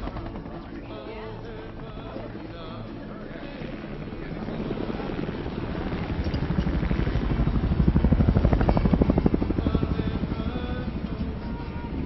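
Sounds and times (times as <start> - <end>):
helicopter rotor beat: 0.0 - 12.0.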